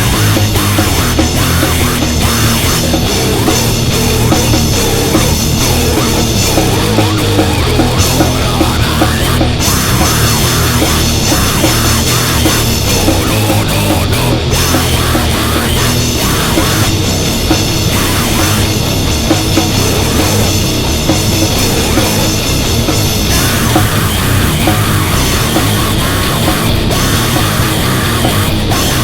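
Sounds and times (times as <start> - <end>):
heavy metal music: 0.0 - 29.0.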